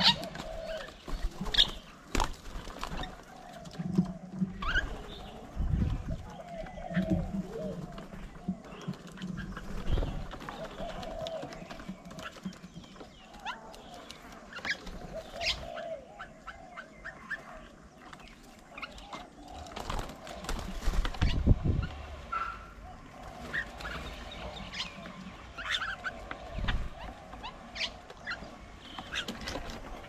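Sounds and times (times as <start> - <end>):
birds chirping and whistling: 0.0 - 30.0.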